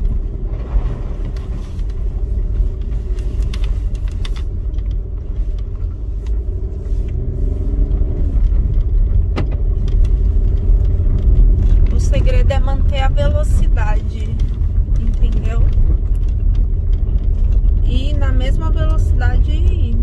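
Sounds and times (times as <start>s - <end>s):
car engine under load: 0.0s - 20.0s
tyres rumbling on rough dirt: 0.0s - 20.0s.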